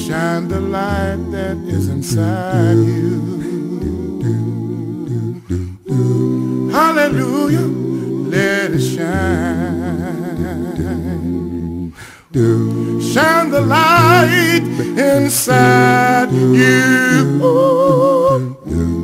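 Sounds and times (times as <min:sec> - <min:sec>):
hummed vocal melody with vibrato: 0:00.0 - 0:19.0.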